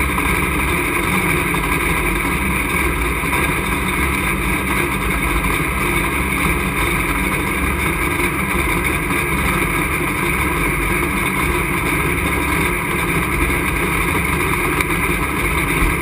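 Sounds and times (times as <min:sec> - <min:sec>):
truck engine running steadily: 0:00.0 - 0:16.0.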